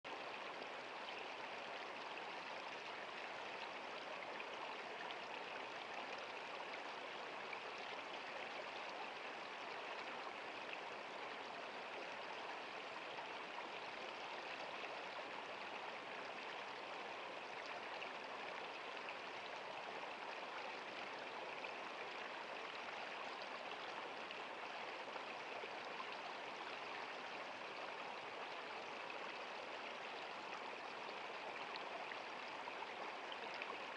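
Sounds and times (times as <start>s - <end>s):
stream babbling: 0.1s - 33.9s.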